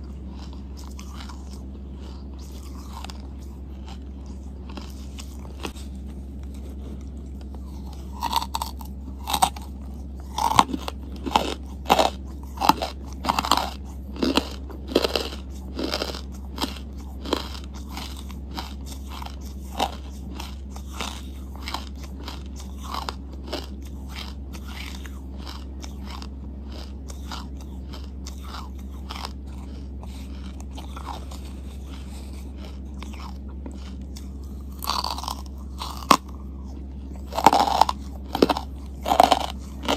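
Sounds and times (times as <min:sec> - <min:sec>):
crunching and chewing charcoal: 0:00.0 - 0:39.9.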